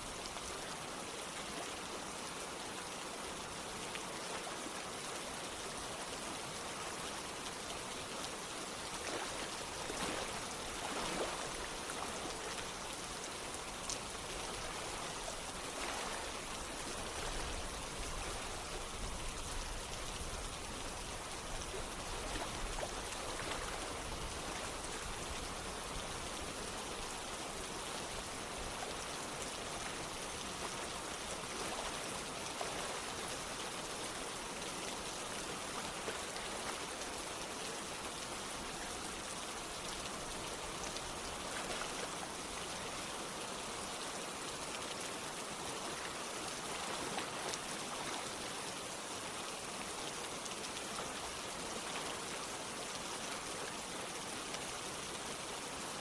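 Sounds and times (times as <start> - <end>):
running water: 0.0 - 56.0
steady rain falling: 0.0 - 56.0.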